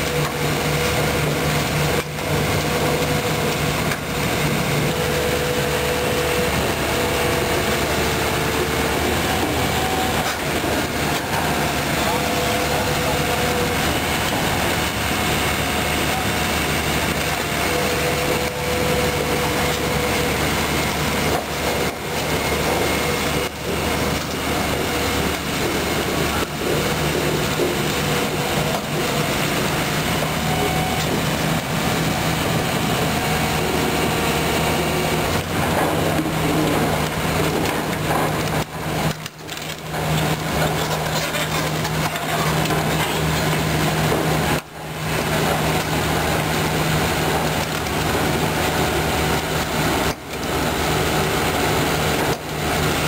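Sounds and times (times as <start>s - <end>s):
diesel engine running: 0.0s - 53.0s
hydraulic whining tones: 0.0s - 53.0s.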